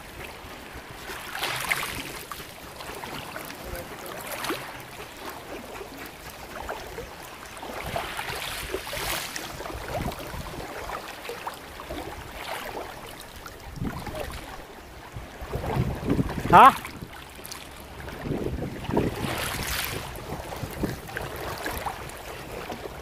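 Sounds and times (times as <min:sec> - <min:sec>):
sea water sloshing and lapping: 0:00.0 - 0:23.0.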